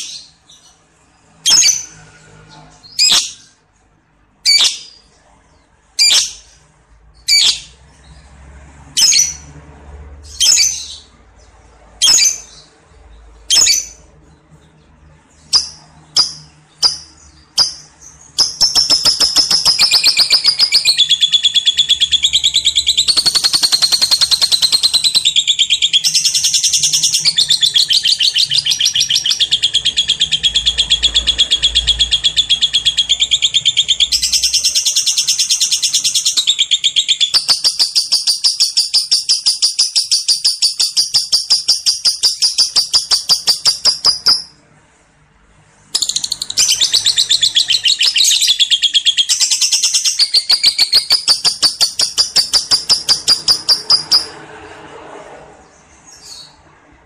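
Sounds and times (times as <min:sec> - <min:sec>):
bird chattering song: 0:04.4 - 0:08.3, 0:10.3 - 0:44.6, 0:46.0 - 0:54.4.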